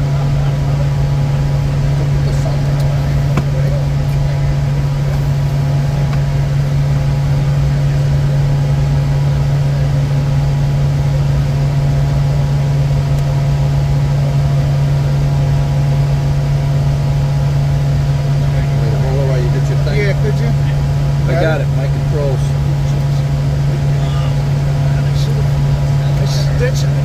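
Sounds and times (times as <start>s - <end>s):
faint steady whines: 0.0s - 27.0s
jet engine and airflow drone: 0.0s - 27.0s.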